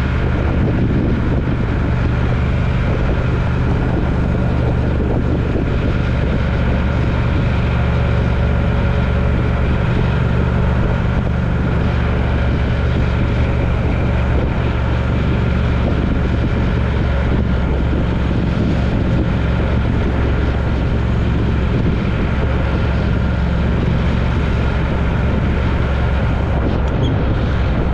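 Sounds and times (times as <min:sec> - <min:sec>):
road noise: 0:00.0 - 0:27.9
vehicle engine drone: 0:00.0 - 0:27.9.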